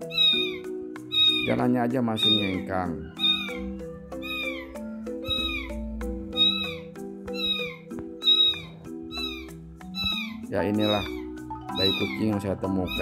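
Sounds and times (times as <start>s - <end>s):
kitten meowing: 0.0s - 1.6s, 2.2s - 13.0s
background music sustained notes: 0.0s - 13.0s.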